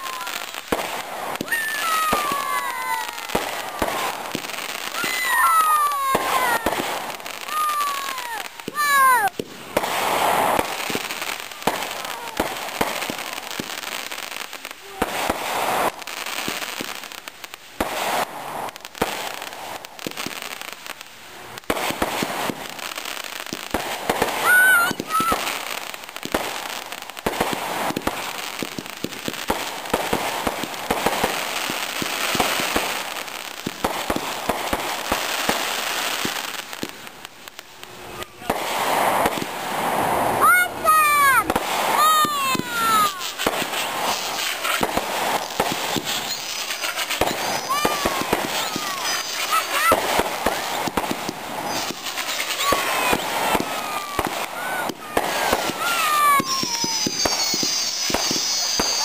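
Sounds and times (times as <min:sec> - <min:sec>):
fireworks crackling: 0:00.0 - 0:59.0
fireworks popping and banging: 0:00.0 - 0:59.0.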